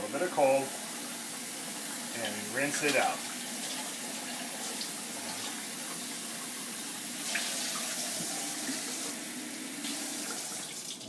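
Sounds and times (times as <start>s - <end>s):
tap water running into sink: 0.1s - 11.0s
dish being rinsed: 0.5s - 11.0s.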